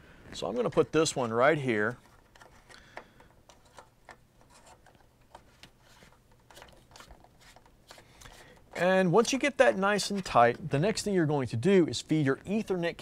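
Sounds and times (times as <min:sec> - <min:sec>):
faint clicks and rubbing: 0:00.2 - 0:10.7.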